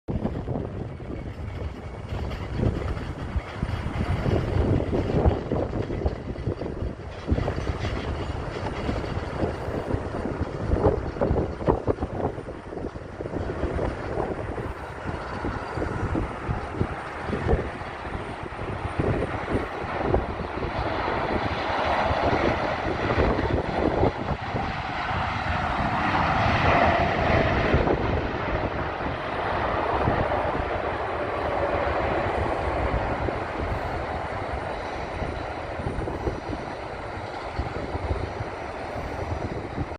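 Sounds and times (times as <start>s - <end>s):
low jet rumble: 0.1s - 39.9s
wind buffeting microphone: 0.1s - 39.9s.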